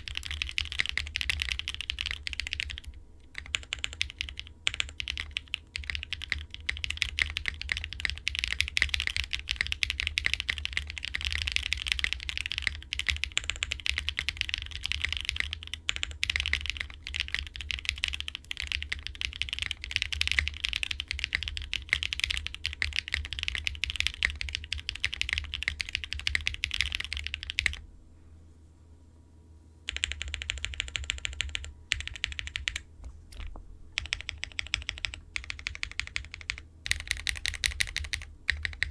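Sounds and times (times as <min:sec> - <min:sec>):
fast typing on mechanical keyboard: 0:00.0 - 0:27.8, 0:29.9 - 0:38.9.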